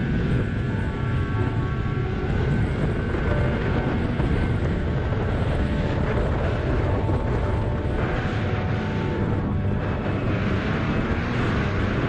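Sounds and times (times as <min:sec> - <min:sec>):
snowmobile engine running: 0:00.0 - 0:12.0
wind noise: 0:00.0 - 0:12.0.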